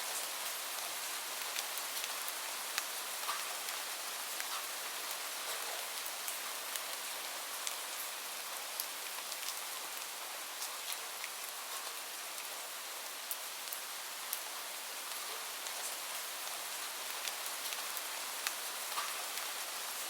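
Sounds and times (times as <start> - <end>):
steady rain falling: 0.0 - 20.0
raindrops ticking close by: 0.1 - 12.5, 13.2 - 20.0.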